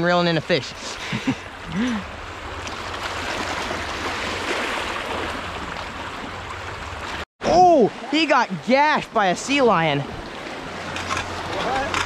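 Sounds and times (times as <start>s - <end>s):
waves washing along shore: 0.0s - 12.0s.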